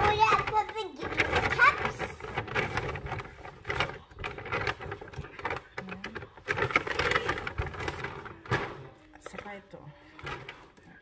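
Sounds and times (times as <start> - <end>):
paper bag rustling: 0.0 - 9.4.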